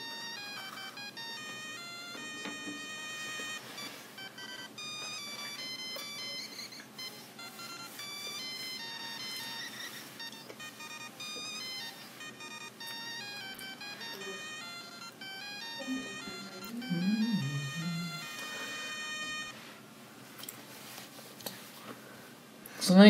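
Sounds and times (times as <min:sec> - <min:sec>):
tinny electronic melody: 0:00.0 - 0:19.9.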